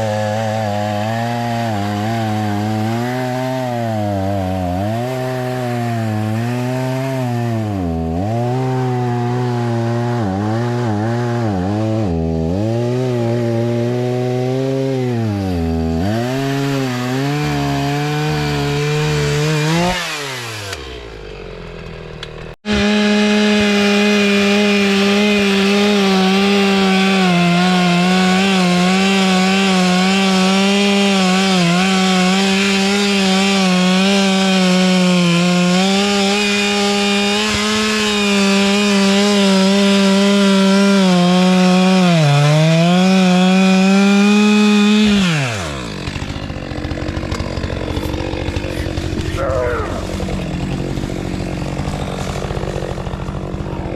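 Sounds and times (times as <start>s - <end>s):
chainsaw cutting log: 0.0s - 53.9s.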